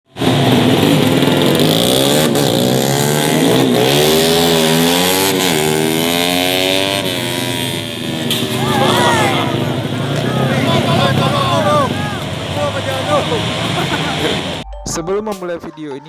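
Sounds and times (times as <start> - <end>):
motorcycles revving high: 0.1 - 14.6.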